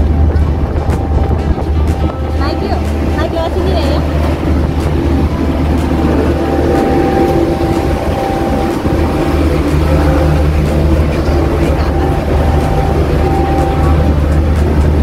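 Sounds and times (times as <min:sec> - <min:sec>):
low engine rumble: 0:00.0 - 0:15.0
thin steady whine: 0:00.0 - 0:15.0.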